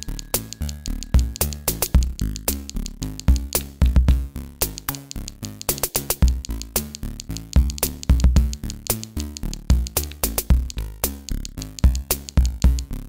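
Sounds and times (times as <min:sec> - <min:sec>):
chiptune music: 0:00.0 - 0:13.0.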